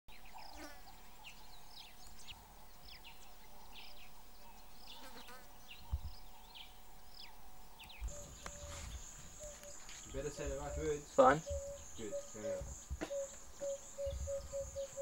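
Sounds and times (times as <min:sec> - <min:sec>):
insect buzz: 0:00.1 - 0:15.0.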